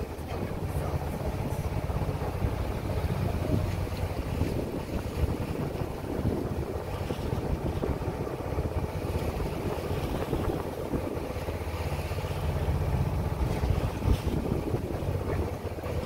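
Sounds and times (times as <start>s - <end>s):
water rushing past hull: 0.0s - 16.0s
wind on microphone: 0.0s - 16.0s.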